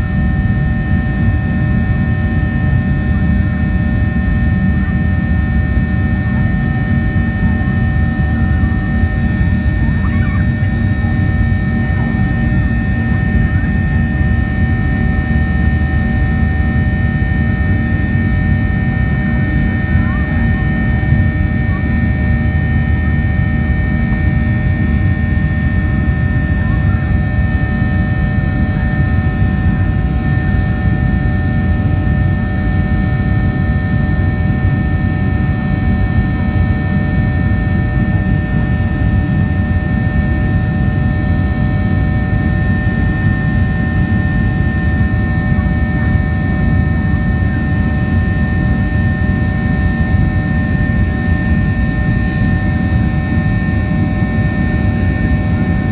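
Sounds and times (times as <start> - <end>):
high engine whine: 0.0 - 55.9
airplane cabin rumble: 4.4 - 55.9.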